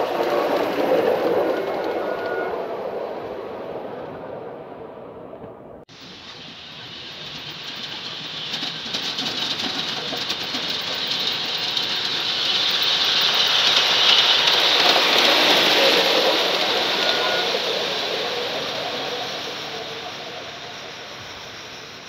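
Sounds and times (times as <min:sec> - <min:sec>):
model trains rolling past: 0:00.0 - 0:22.0.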